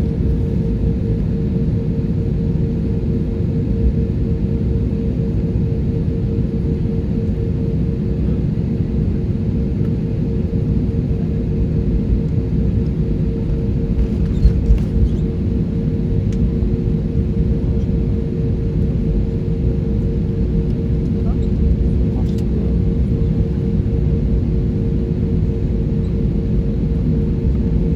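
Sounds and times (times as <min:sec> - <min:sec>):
aircraft engine cabin rumble: 0:00.0 - 0:27.9.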